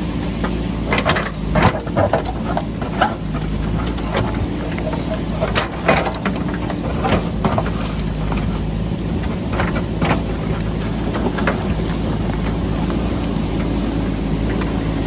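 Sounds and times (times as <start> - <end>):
diesel engine under load: 0.0 - 15.0
rock knocking and clattering: 0.1 - 15.0.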